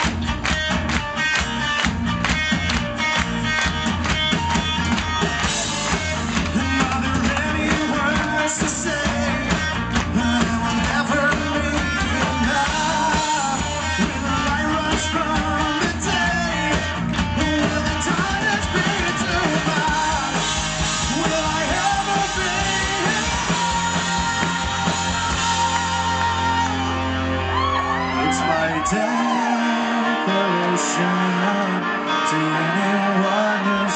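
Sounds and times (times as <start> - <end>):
live rock band playing: 0.0 - 33.9
man singing into microphone: 6.3 - 33.9.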